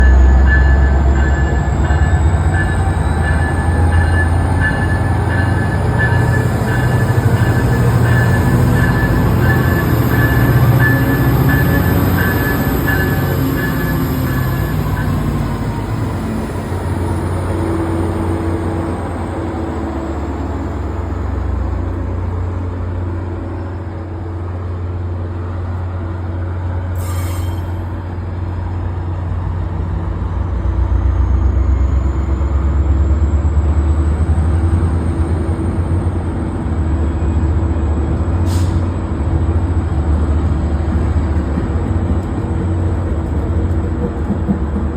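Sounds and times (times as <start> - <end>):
train rumbling: 0.0 - 44.9.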